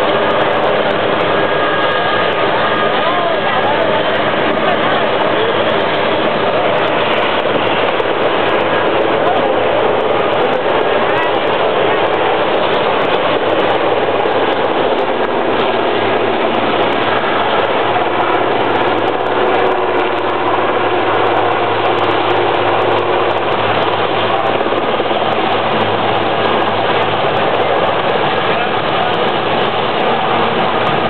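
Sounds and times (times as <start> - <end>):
helicopter engines running: 0.0 - 31.0.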